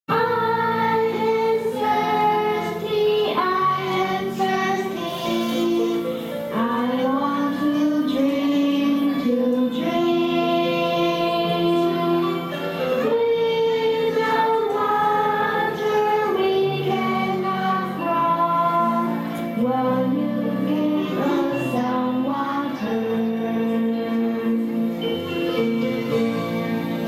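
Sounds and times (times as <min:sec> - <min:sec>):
children singing: 0:00.1 - 0:26.8
music: 0:00.1 - 0:27.0.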